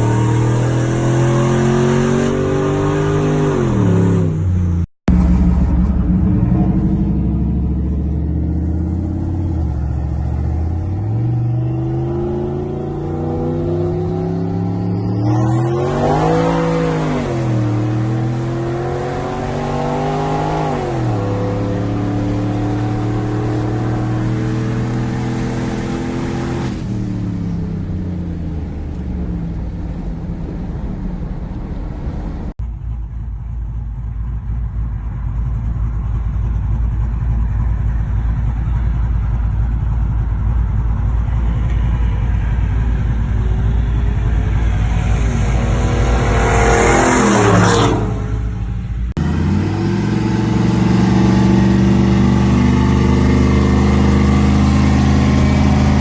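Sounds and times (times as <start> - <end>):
high whine: 0.0 - 25.2, 28.7 - 56.0
truck engine accelerating: 0.0 - 56.0.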